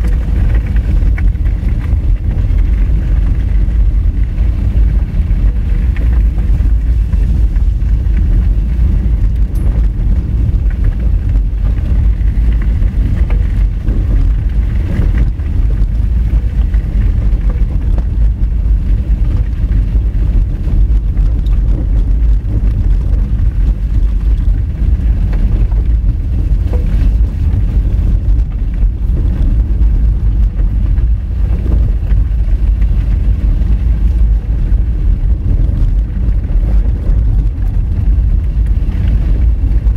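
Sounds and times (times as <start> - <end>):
gravel crackling: 0.0 - 39.9
tyres rumbling on gravel: 0.0 - 39.9.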